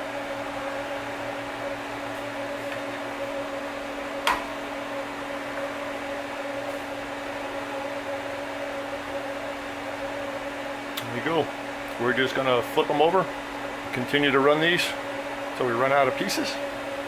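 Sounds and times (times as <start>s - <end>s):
milling machine humming: 0.0s - 17.0s.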